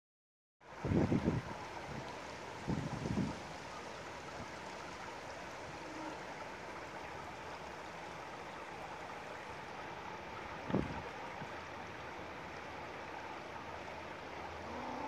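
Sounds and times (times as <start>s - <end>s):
running water: 0.6s - 15.0s.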